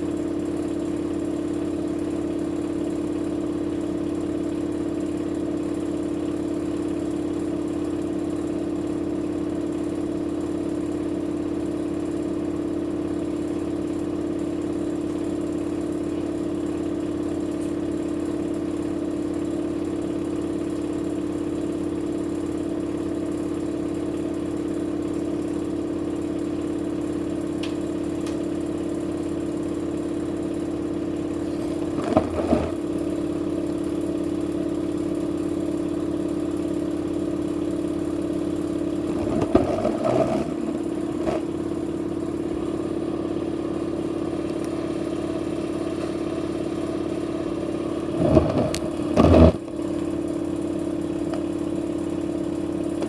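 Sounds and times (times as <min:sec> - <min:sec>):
washing machine spin hum: 0:00.0 - 0:53.0.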